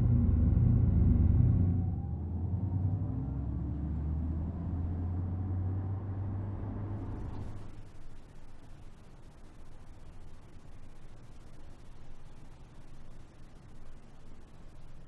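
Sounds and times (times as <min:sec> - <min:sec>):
low synthetic warning hum: 0:00.0 - 0:15.0.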